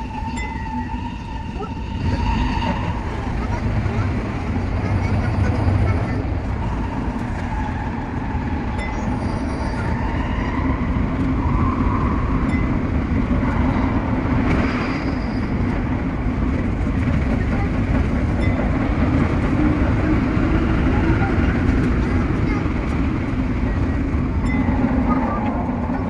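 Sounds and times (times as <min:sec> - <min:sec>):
electric train running on rails: 0:00.0 - 0:26.0.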